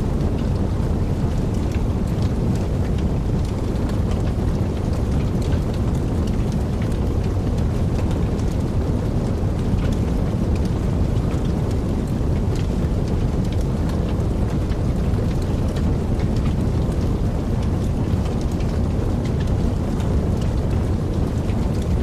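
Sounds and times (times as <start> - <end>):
fire popping and snapping: 0.0 - 22.0
wood fire crackling: 0.0 - 22.0.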